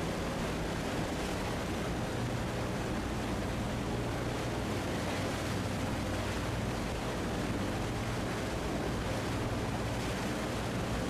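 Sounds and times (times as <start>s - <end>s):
low engine hum: 0.0s - 11.0s
water rushing: 0.0s - 11.0s.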